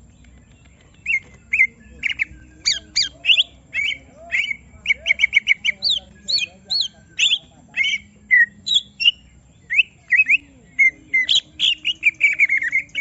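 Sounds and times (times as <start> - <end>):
bird singing sharp whistled chirps: 0.0 - 13.0.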